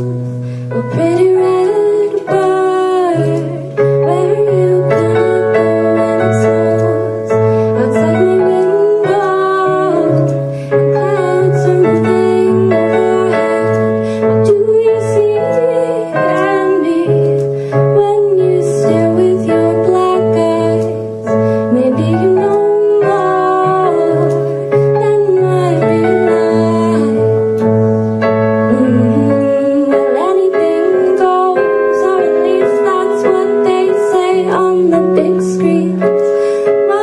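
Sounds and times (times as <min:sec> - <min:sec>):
woman singing: 0:00.0 - 0:27.9, 0:28.5 - 0:37.0
electric keyboard piano chords: 0:00.0 - 0:37.0.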